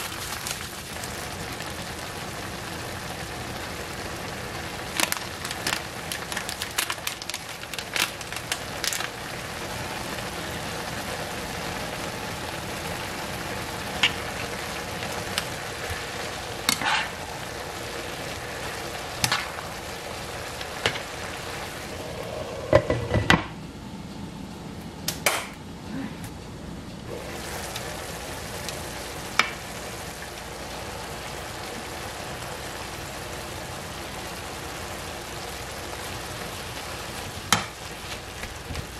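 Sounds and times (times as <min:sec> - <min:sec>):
noodles sizzling in a frying pan: 0:00.0 - 0:23.2, 0:27.1 - 0:38.9.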